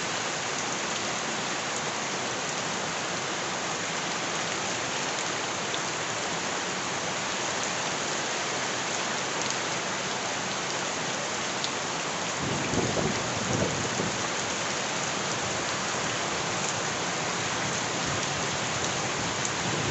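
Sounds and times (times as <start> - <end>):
steady rain falling: 0.0 - 19.9.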